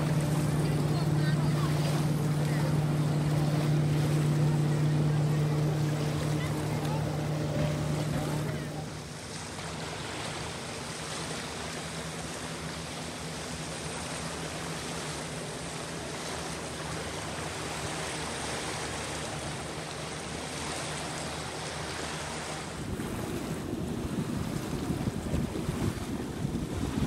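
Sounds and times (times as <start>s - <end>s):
distant motorboat engine hum: 0.0s - 27.0s
small waves lapping on shore: 0.0s - 27.0s.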